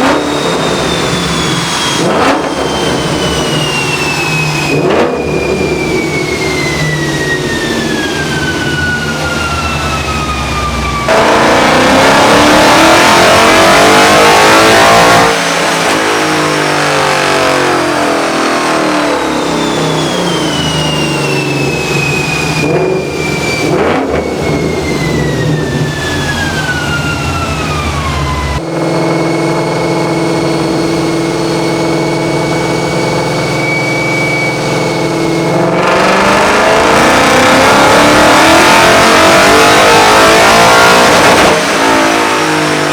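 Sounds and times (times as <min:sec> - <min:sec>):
car engine on a dyno: 0:00.0 - 0:42.9
dyno whine: 0:00.0 - 0:42.9.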